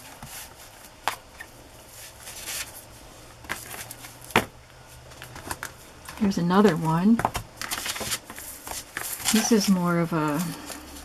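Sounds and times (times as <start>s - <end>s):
book covers rustling and sliding: 0.0s - 11.0s.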